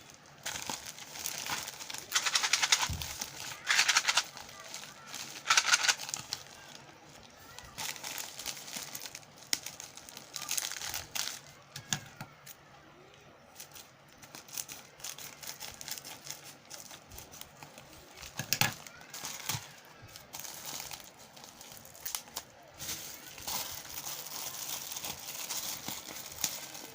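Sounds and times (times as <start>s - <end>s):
plastic packaging crinkling: 0.0s - 11.9s, 13.6s - 26.9s.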